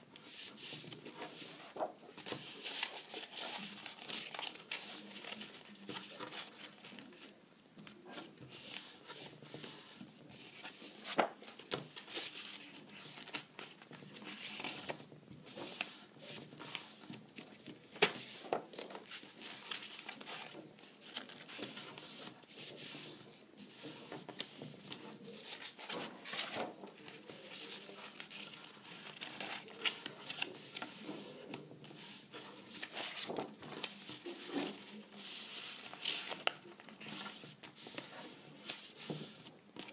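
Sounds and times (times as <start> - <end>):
cardboard crinkling and rustling: 0.2 - 39.9.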